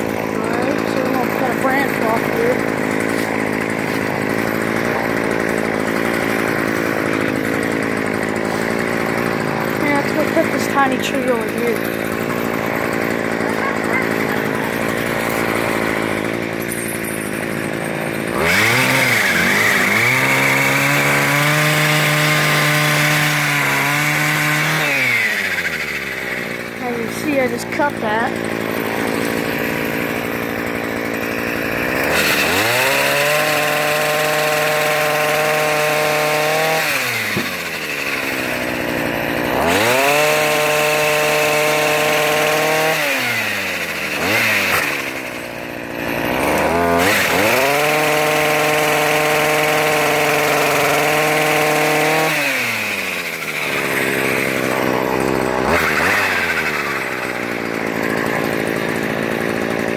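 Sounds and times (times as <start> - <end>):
saw chain cutting branches: 0.0 - 59.9
weed eater engine revving: 0.0 - 59.9.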